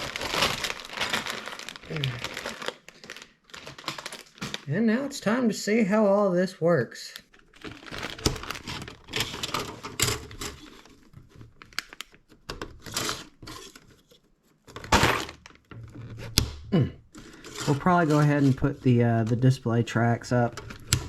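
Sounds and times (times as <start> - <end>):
plastic bag crinkling: 0.0 - 4.7, 7.2 - 16.2, 17.2 - 21.0.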